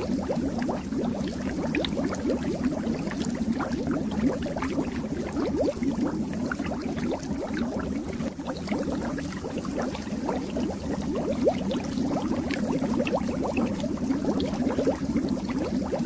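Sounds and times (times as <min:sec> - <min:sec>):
water bubbling and gurgling: 0:00.0 - 0:16.0.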